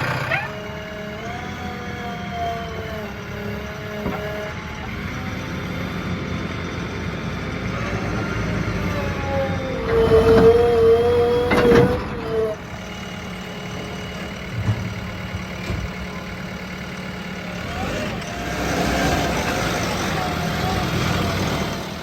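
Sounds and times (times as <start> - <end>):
heavy machinery diesel engines: 0.0 - 22.0.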